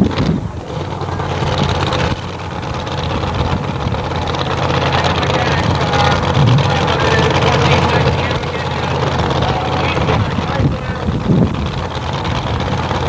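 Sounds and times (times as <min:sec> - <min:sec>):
drag car engine idling: 0:00.0 - 0:13.0.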